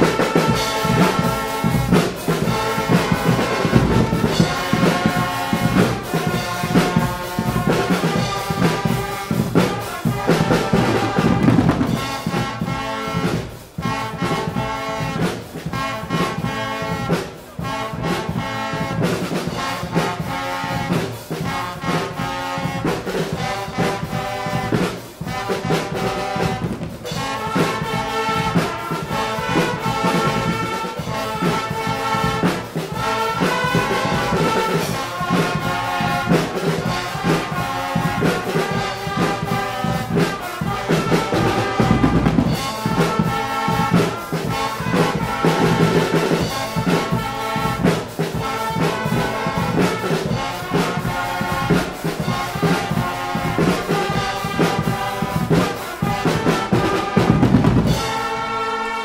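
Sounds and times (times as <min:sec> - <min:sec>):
bass drums: 0:00.0 - 0:58.4
brass band playing: 0:00.0 - 0:59.0
marching snare drums: 0:00.0 - 0:59.0.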